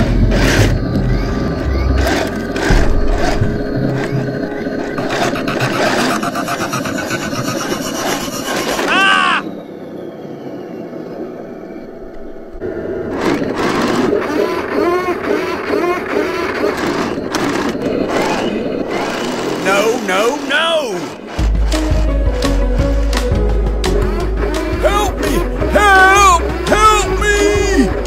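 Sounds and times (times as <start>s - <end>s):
model tank tracks grinding: 0.0s - 9.2s, 11.4s - 28.0s.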